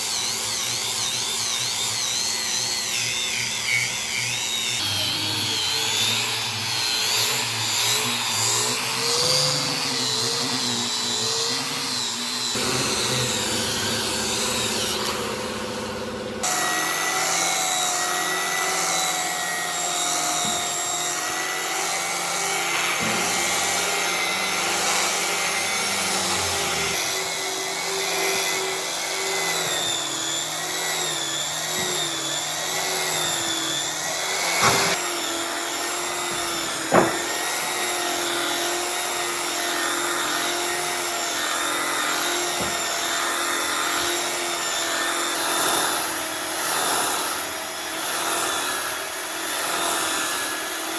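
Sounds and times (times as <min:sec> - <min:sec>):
power tools cutting wood: 0:00.0 - 0:50.9.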